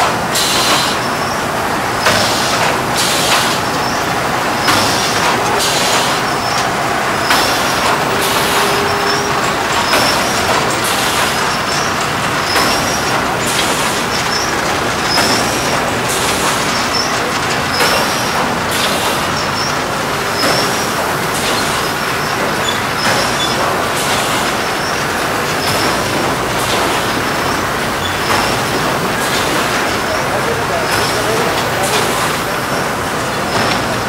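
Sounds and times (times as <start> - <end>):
industrial machinery running: 0.0 - 34.0.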